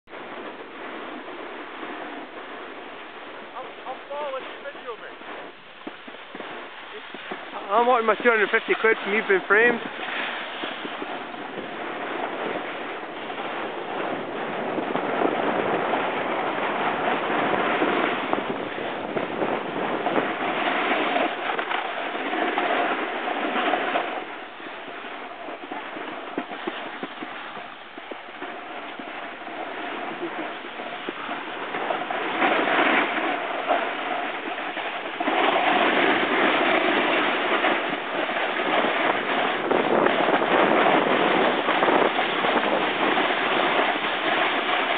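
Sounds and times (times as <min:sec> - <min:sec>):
snowboard scraping over snow: 0:00.1 - 0:44.9.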